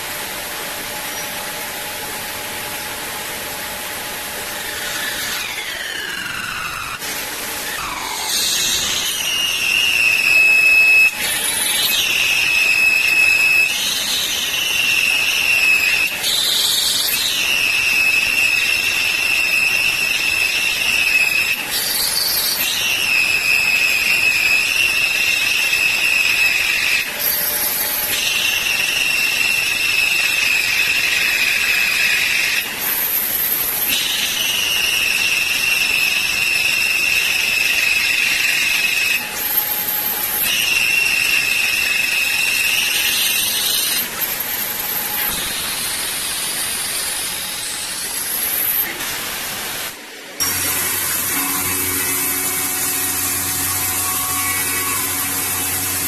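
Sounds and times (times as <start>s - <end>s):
high-pitched milling whine: 0.0s - 56.0s.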